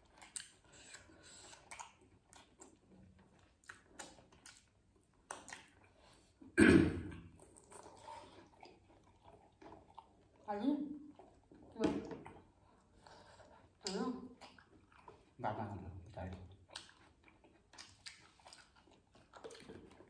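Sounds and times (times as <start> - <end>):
people chewing: 0.0 - 20.0.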